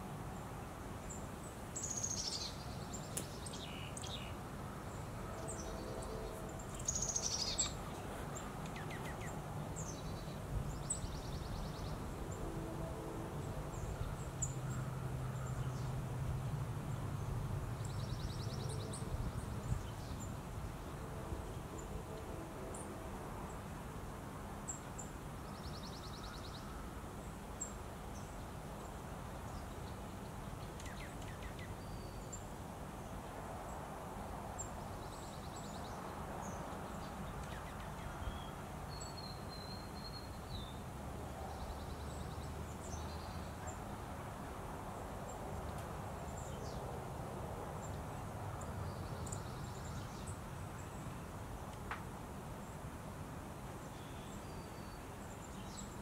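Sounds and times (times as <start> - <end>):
distant songbirds chirping: 1.0 - 16.2, 16.9 - 23.6, 24.7 - 33.9, 34.6 - 44.2, 45.0 - 47.0, 47.8 - 52.0, 53.7 - 56.0.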